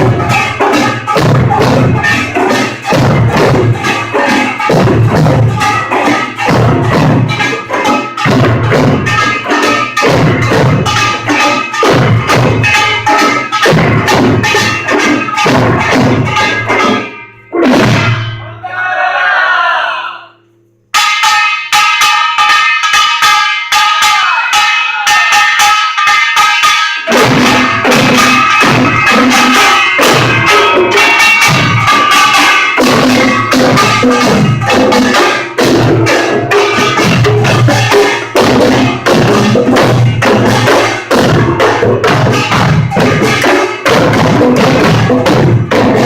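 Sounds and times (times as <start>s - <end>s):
drums playing fast rhythm: 0.0s - 18.4s, 20.9s - 46.0s.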